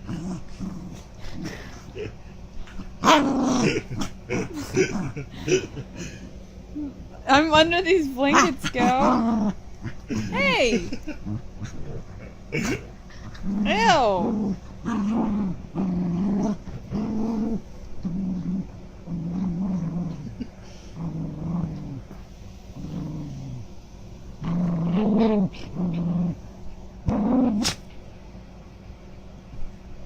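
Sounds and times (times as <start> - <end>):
small dog growling: 0.0 - 7.2, 8.3 - 28.0.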